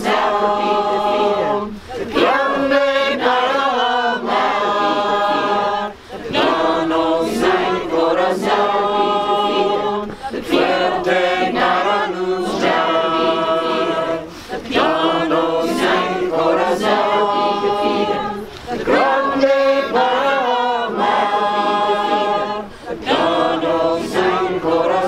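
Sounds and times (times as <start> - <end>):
crowd singing without instruments: 0.0 - 25.0.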